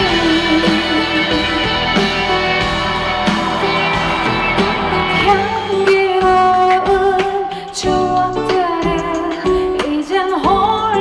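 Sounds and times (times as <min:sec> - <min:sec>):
live band playing pop: 0:00.0 - 0:11.0.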